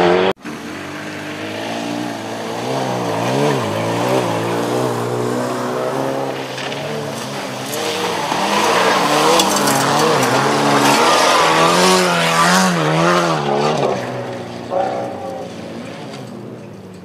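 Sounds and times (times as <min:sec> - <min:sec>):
car engine revving: 0:00.0 - 0:17.0
tyres scrabbling on gravel: 0:01.8 - 0:17.0.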